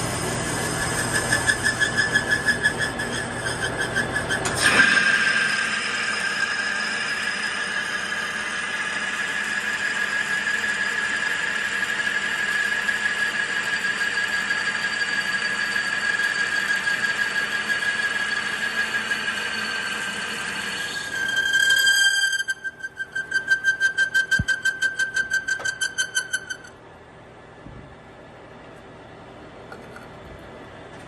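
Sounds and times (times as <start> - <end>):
metal lathe cutting squeal: 0.0 - 26.7.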